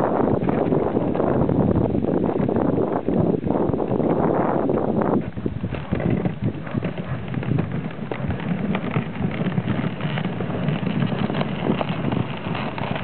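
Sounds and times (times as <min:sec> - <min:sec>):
sled runners scraping snow: 0:00.0 - 0:13.0
sled knocks and clatters: 0:00.1 - 0:13.0.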